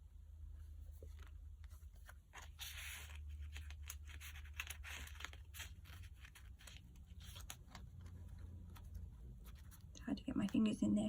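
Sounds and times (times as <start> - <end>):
low steady hum: 0.0 - 11.0
paper rustling and crinkling: 0.9 - 10.7
small clicks and scrapes: 1.0 - 10.6.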